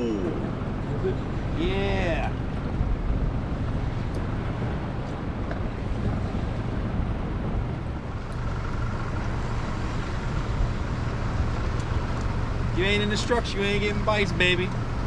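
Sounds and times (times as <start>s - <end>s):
wind and water rumble: 0.0s - 15.0s
wind buffeting microphone: 0.0s - 15.0s.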